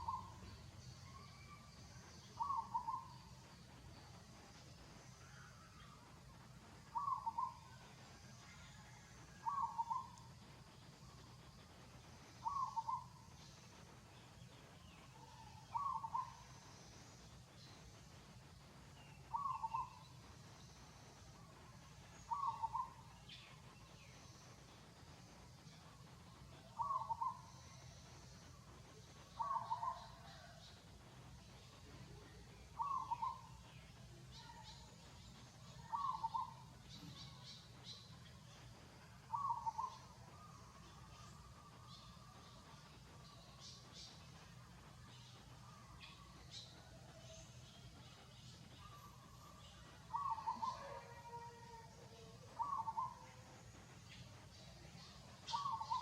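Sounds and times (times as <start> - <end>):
faint high chirps: 0.0 - 56.0.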